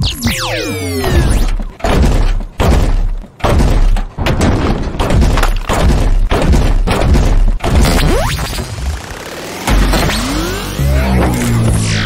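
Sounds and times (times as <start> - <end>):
heavy mechanical impacts: 0.1 - 12.0.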